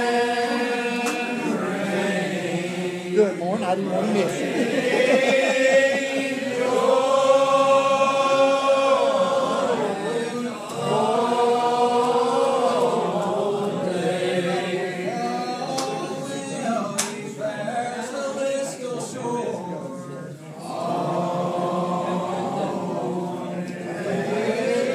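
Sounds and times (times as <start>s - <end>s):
congregation singing a hymn: 0.0s - 24.9s.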